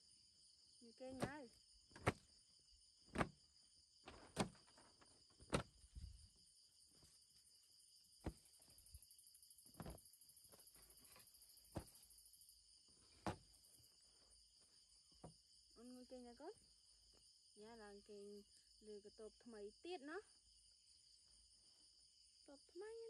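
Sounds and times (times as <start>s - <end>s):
crickets and insects trilling: 0.0s - 23.0s
higher insect band: 0.0s - 23.0s.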